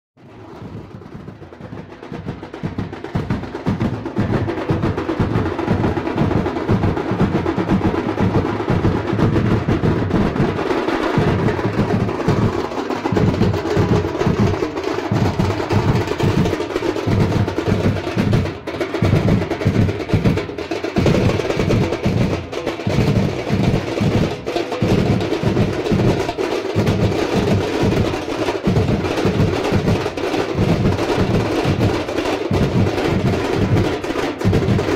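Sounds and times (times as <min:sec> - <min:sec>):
music with driving drum beat: 0:00.2 - 0:34.9.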